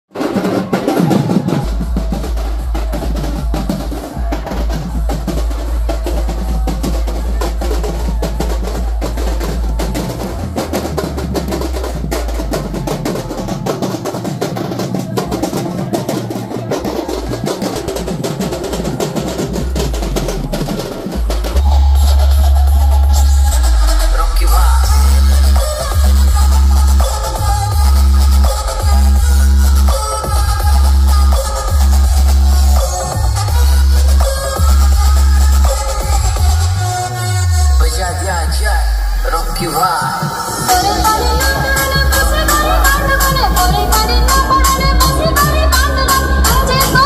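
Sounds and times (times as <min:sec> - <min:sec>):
loud drum-heavy music with deep bass: 0:00.1 - 0:47.0.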